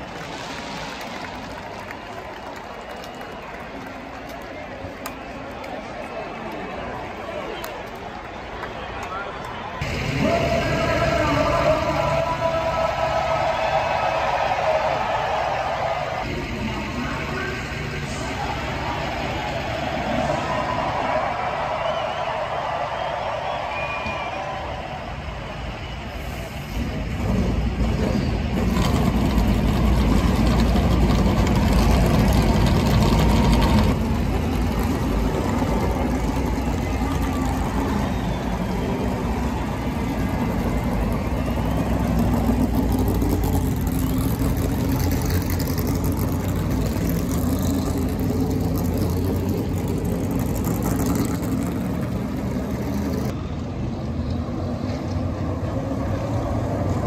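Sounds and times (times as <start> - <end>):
stock car engines running: 0.0 - 57.0.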